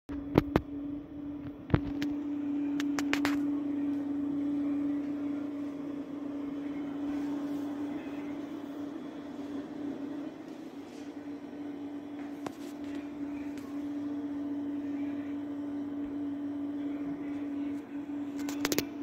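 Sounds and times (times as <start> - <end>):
projector humming: 0.1 - 19.0.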